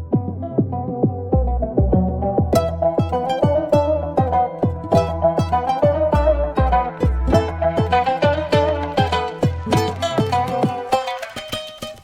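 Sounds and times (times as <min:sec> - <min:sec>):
deep kick drums: 0:00.0 - 0:11.0
electronic music: 0:00.0 - 0:11.7.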